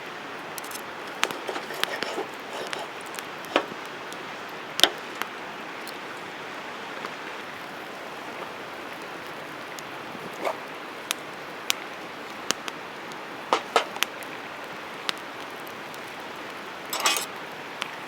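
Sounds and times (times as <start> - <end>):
steady fire hiss: 0.0 - 18.0
campfire crackling and popping: 0.2 - 18.0.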